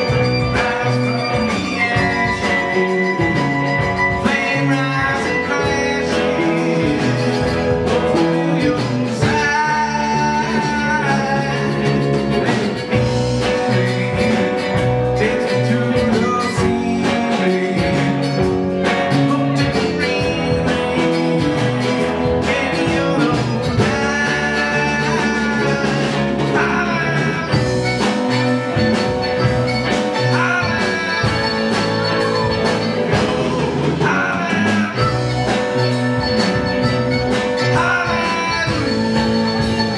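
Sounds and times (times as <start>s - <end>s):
folk-rock band playing: 0.0s - 39.9s
person singing: 0.0s - 39.9s.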